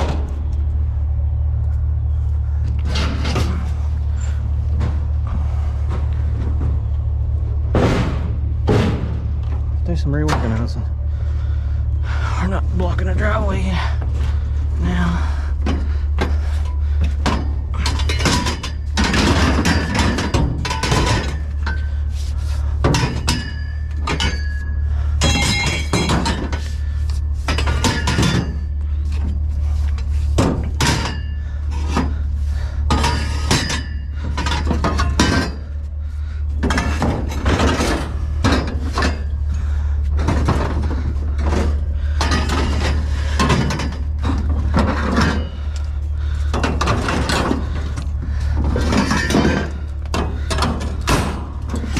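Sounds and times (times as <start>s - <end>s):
steady low hum: 0.0s - 51.9s
scrap metal clanking and banging: 2.0s - 51.9s.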